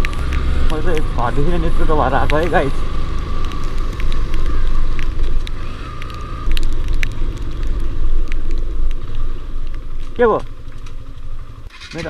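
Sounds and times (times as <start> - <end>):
wind rumble on microphone: 0.0 - 10.2
sharp ticks: 0.0 - 11.3
motorcycle riding: 0.0 - 12.0.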